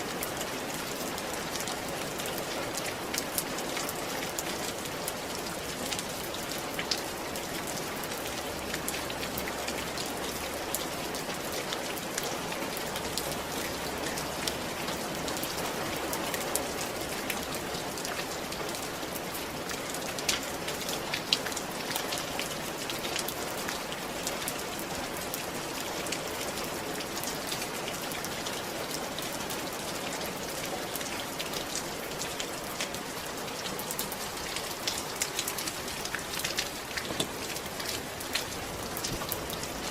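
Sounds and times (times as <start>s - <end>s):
rain pattering on roof: 0.0s - 39.9s.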